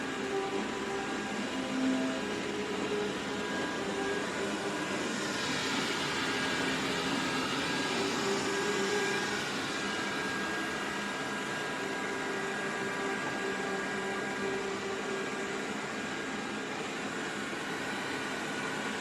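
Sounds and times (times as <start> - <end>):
robot vacuum whirring: 0.0 - 19.0.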